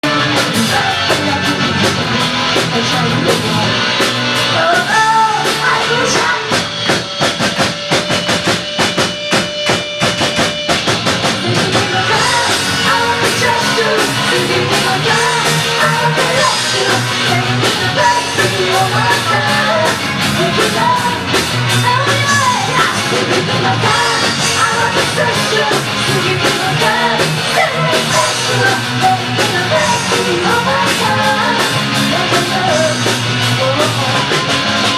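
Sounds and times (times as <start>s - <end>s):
lead singer singing: 0.0s - 7.0s, 11.4s - 34.9s
rapid drumming: 0.0s - 34.9s
rock band playing: 0.0s - 34.9s.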